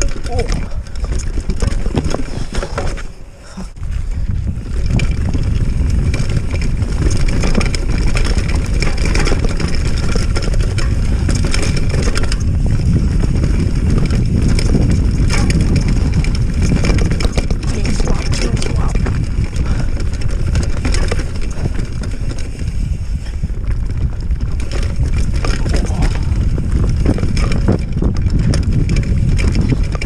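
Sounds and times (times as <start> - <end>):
bike rattling over bumps: 0.0 - 30.0
tyres on dirt: 0.0 - 30.0
wind buffeting microphone: 0.0 - 30.0.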